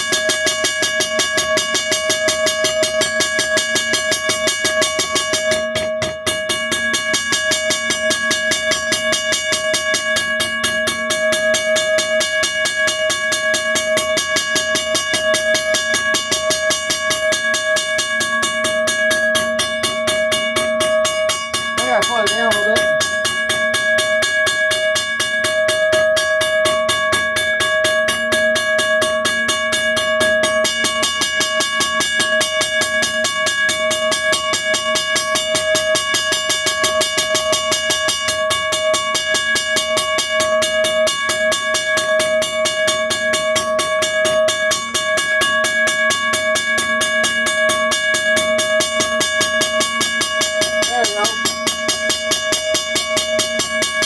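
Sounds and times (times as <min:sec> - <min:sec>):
crossing bell ringing: 0:00.0 - 0:54.0.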